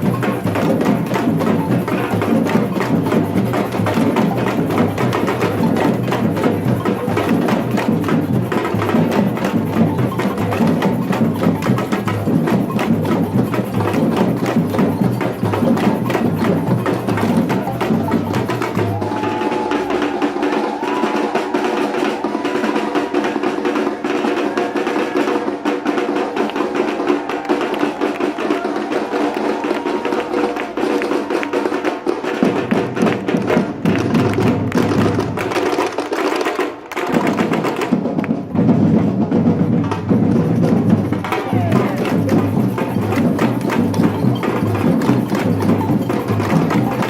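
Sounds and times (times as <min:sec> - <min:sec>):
samba drum ensemble: 0:00.0 - 0:47.0.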